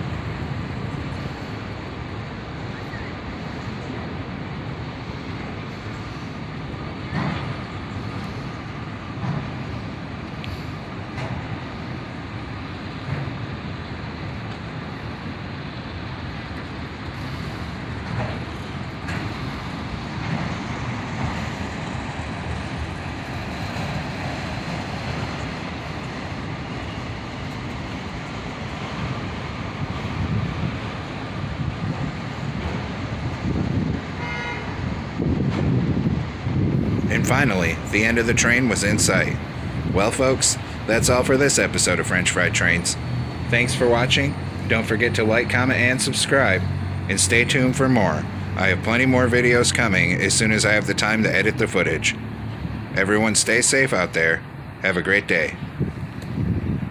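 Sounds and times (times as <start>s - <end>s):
freight cars rumbling past: 0.0s - 56.9s.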